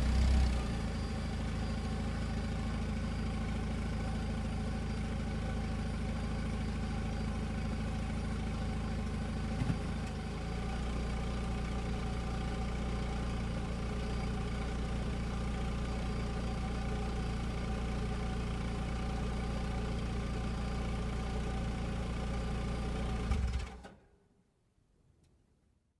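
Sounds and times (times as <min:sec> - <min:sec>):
car engine idling: 0:00.0 - 0:23.5.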